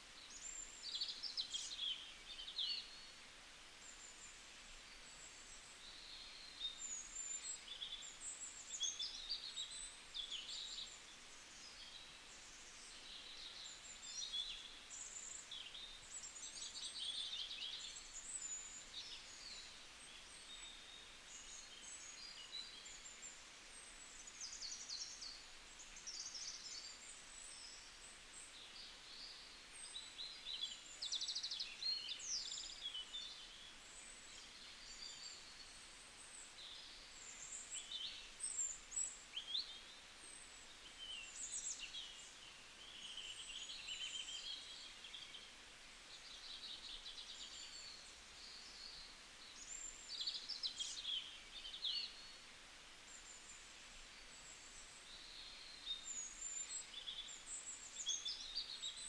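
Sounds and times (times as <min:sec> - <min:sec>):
faint outdoor hiss: 0:00.0 - 0:59.0
small birds chirping and trilling: 0:00.2 - 0:59.0.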